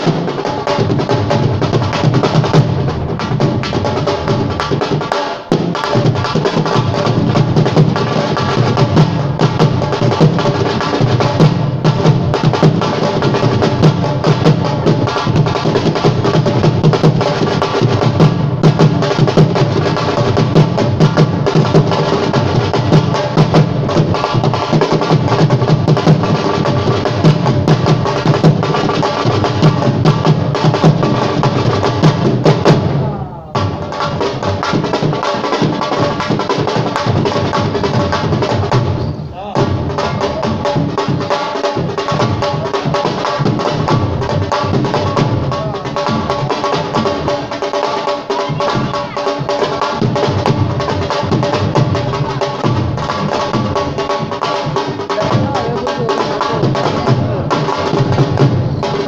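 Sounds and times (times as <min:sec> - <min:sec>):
fast dense drumming: 0:00.0 - 0:59.0.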